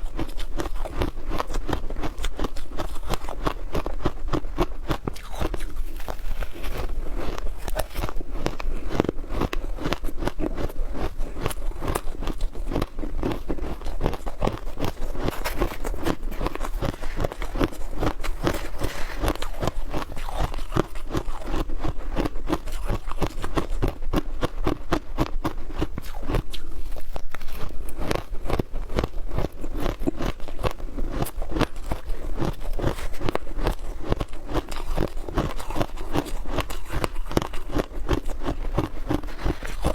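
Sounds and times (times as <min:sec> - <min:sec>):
shaved ice crunching when chewed: 0:00.0 - 0:39.9.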